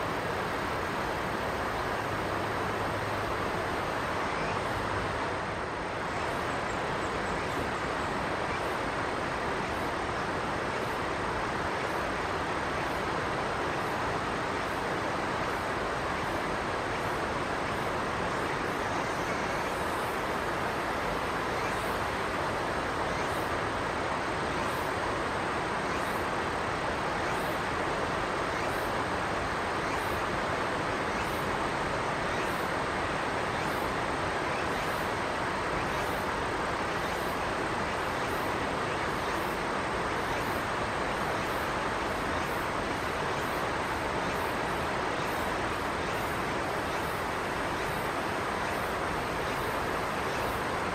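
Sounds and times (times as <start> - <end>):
river rushing: 0.0 - 50.9.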